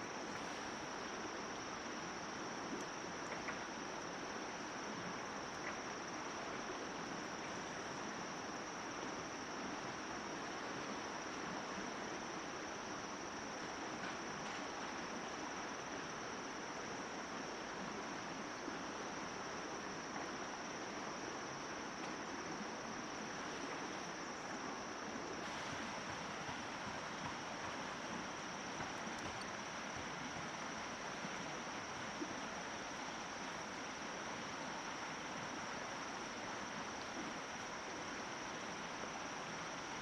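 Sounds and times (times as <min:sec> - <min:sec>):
rushing water: 0:00.0 - 0:40.0.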